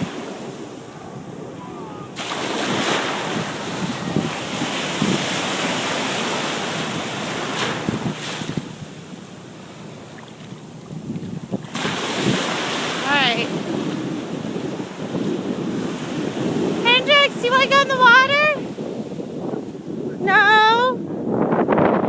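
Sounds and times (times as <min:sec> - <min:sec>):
ocean surf washing on beach: 0:00.0 - 0:22.0
wind buffeting microphone: 0:00.0 - 0:22.0.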